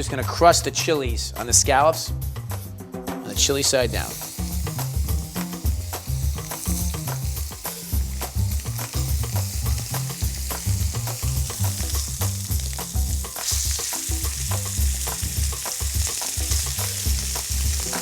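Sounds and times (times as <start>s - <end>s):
background music with bass line: 0.0s - 18.0s
scallops sizzling in a pan: 3.3s - 18.0s.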